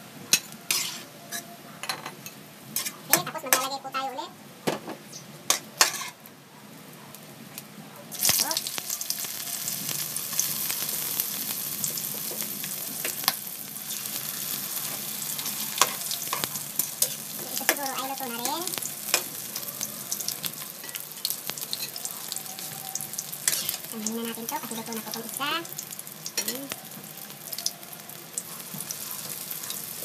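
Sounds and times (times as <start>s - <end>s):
oil sizzling in wok: 0.0s - 1.5s, 2.2s - 4.2s, 5.1s - 6.3s, 7.1s - 30.0s.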